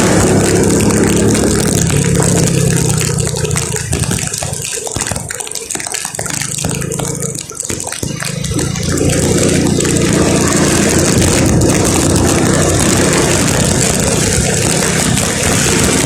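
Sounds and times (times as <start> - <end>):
vehicle engine running: 0.0 - 5.3, 6.2 - 16.0
rain hiss on wet road: 0.0 - 16.0.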